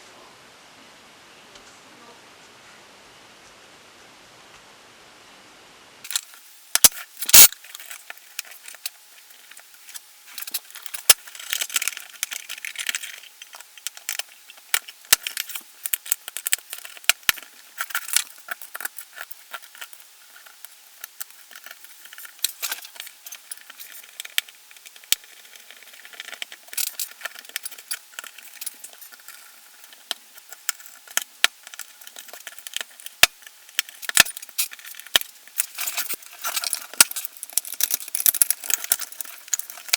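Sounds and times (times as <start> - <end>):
small metal parts clicking: 6.1 - 39.9.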